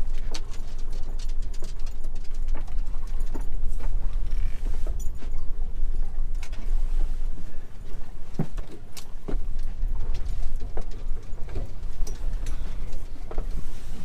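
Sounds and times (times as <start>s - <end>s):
boat engine and water rumble: 0.0s - 14.0s.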